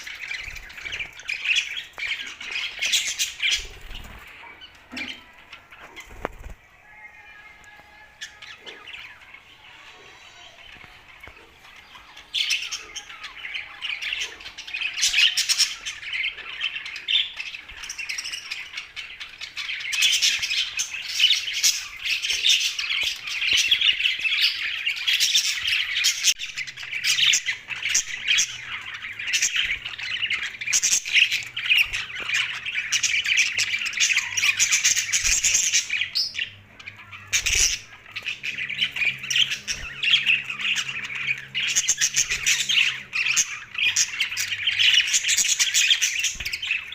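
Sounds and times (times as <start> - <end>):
budgerigars chattering and squawking: 0.0 - 46.9.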